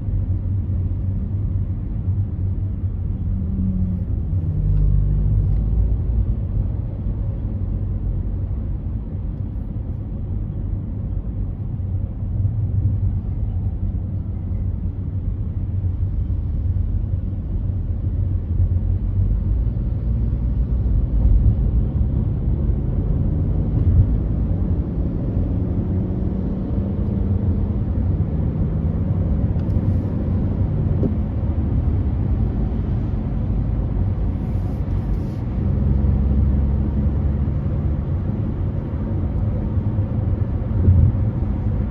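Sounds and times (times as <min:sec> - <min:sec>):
car road and engine rumble: 0:00.0 - 0:41.9.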